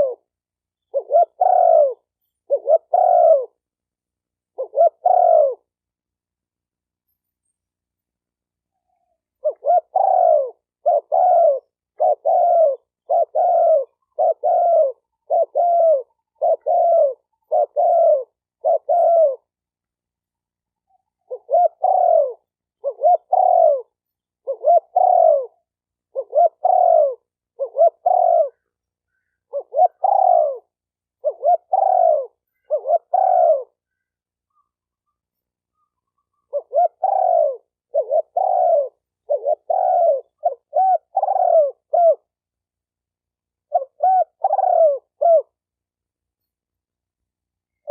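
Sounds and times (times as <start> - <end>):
dove cooing: 0.0 - 3.7, 4.5 - 5.8, 8.8 - 19.6, 20.8 - 42.5, 43.6 - 45.7.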